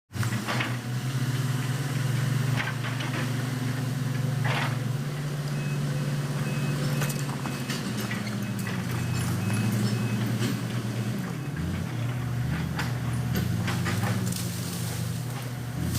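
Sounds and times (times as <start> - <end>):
bulldozer diesel engine running: 0.1 - 15.9.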